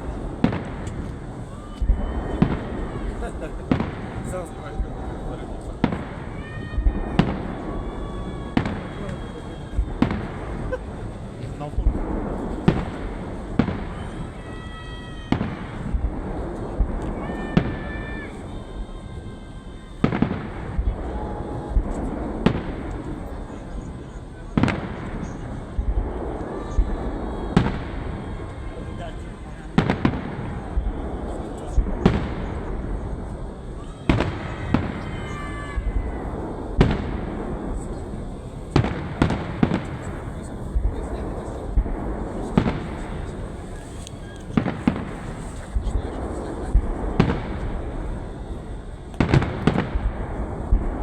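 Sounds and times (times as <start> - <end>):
firework shells booming: 0.0 - 51.0
firework whistling: 0.0 - 51.0
rumbling crackle: 0.0 - 51.0.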